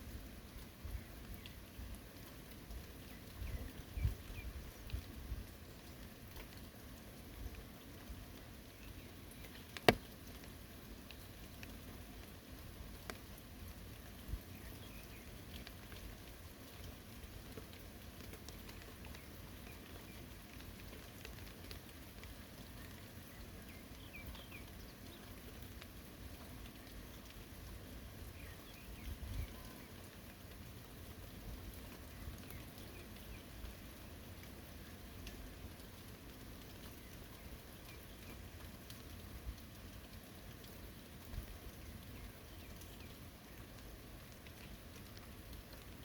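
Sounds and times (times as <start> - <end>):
individual raindrops: 0.0 - 46.0
steady rain in forest: 0.0 - 46.0.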